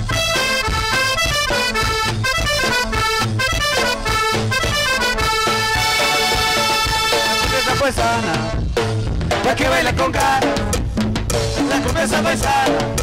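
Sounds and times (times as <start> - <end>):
accordion melody: 0.0 - 13.0
steady bass beat: 0.0 - 13.0.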